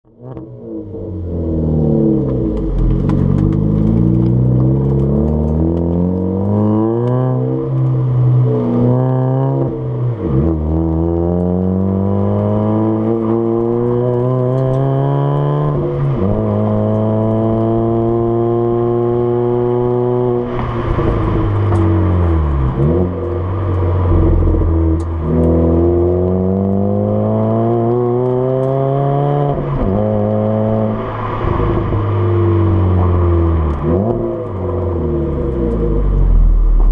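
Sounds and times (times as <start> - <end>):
car exhaust accelerating: 0.1 - 36.9.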